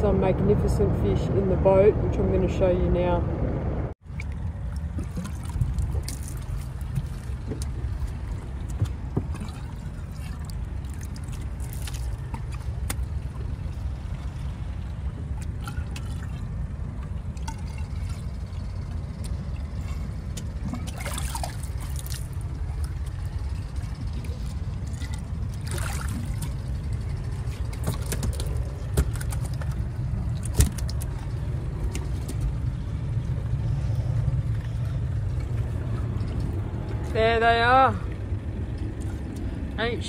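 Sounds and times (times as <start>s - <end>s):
low rumble: 0.0s - 40.0s
water trickling and sloshing: 3.9s - 40.0s.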